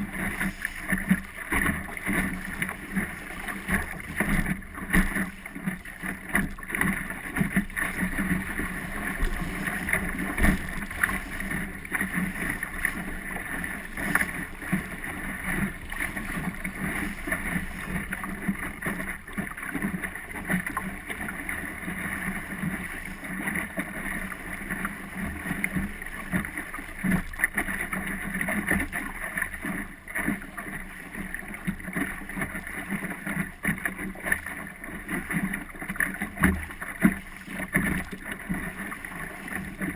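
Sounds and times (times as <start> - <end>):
water slapping boat hull: 0.0 - 39.9.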